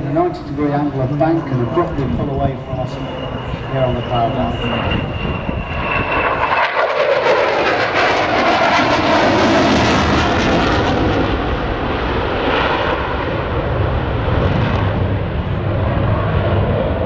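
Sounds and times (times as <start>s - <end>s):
jet engines deep rumble: 0.0s - 17.0s
jet engines high hiss: 0.0s - 17.0s.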